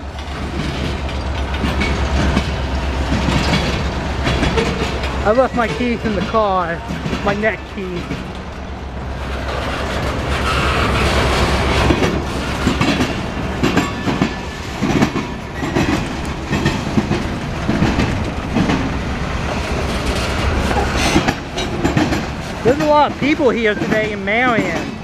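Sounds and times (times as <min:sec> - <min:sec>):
steel wheels rumbling on rail: 0:00.0 - 0:25.0
wheels clattering over rail joints: 0:00.0 - 0:25.0.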